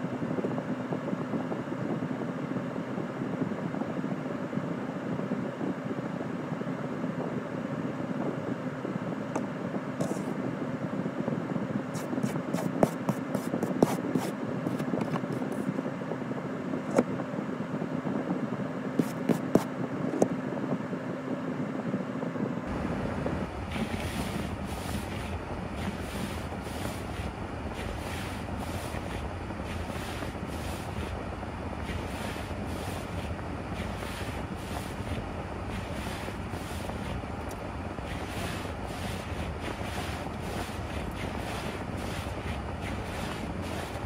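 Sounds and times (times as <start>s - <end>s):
vehicle running hum: 0.0s - 44.0s.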